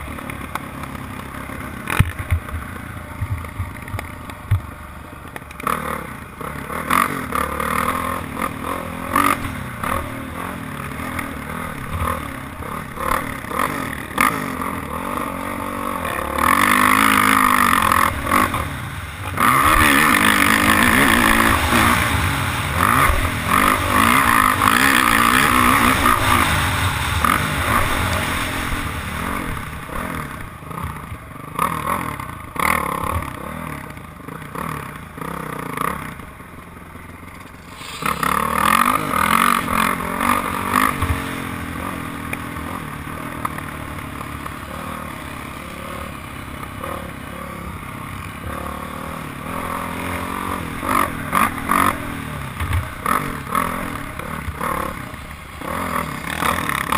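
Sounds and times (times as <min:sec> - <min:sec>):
dirt bike engine revving: 0:00.0 - 0:36.4, 0:37.6 - 0:56.9.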